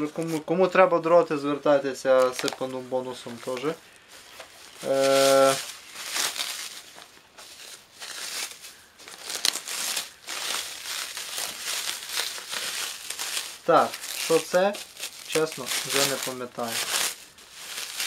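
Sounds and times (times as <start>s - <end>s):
plastic and foil wrapping crinkling: 0.0s - 0.9s, 2.0s - 18.0s.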